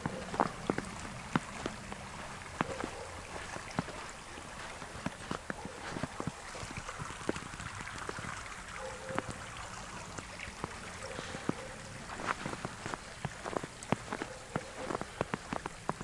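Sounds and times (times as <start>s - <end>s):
creek water rushing: 0.0s - 16.0s
water ticks and drips: 0.0s - 16.0s.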